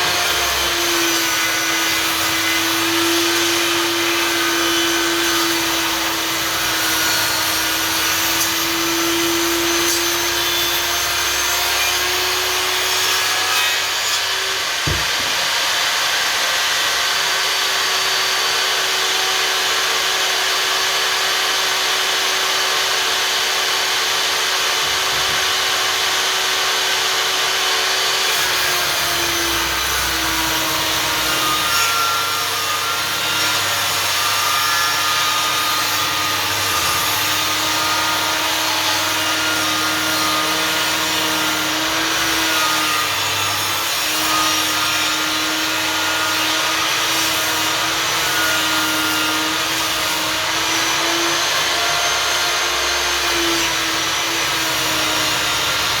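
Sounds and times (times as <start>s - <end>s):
table saw cutting wood: 0.0s - 56.0s.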